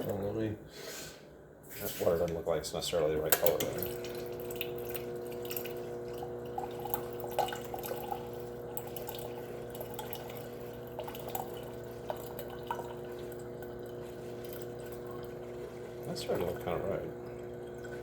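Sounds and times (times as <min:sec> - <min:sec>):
refrigerator hum: 0:00.0 - 0:18.0
water pouring into a glass: 0:03.4 - 0:18.0.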